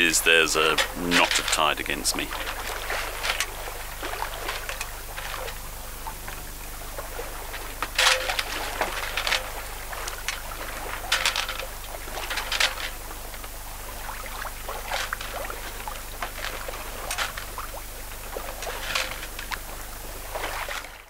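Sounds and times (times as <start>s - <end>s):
faint low hum: 0.0s - 21.0s
water splashing along hull: 0.0s - 21.0s.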